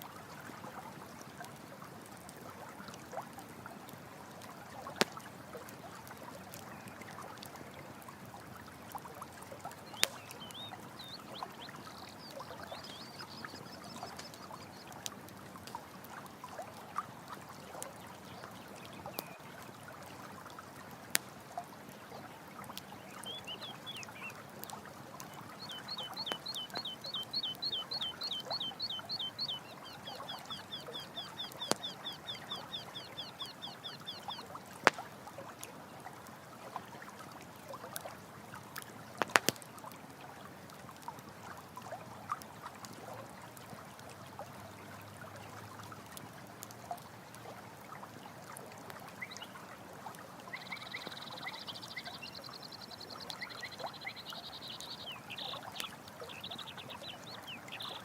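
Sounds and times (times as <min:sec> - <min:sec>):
running water flowing: 0:00.0 - 0:58.0
campfire crackling: 0:00.1 - 0:44.7, 0:45.8 - 0:58.0.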